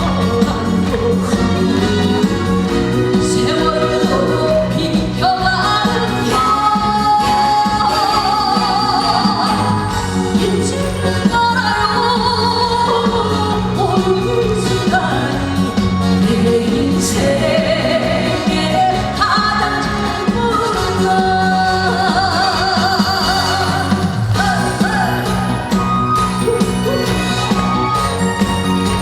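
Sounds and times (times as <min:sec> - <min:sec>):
backing band with steady beat: 0:00.0 - 0:29.0
woman singing with vibrato: 0:00.0 - 0:29.0.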